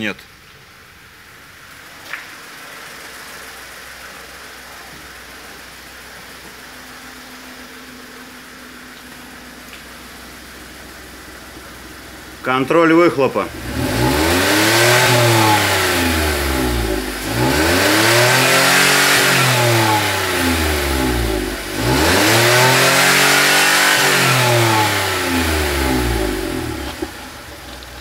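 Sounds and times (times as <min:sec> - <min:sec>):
car engine revving: 0:03.2 - 0:28.0.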